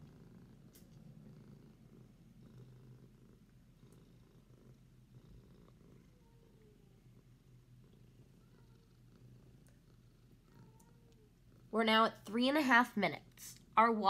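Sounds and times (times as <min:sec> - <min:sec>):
cat purring: 0:00.0 - 0:13.8.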